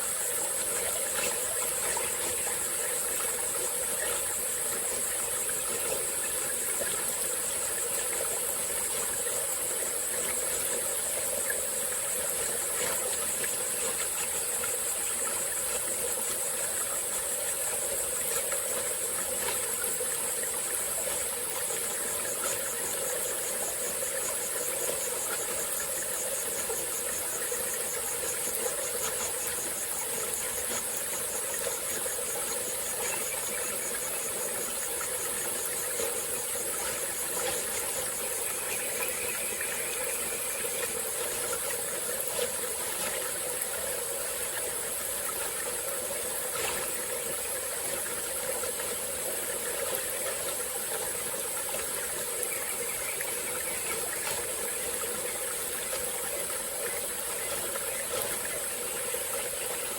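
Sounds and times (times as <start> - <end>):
insect chorus: 0.0 - 59.9
stream flowing: 0.0 - 59.9.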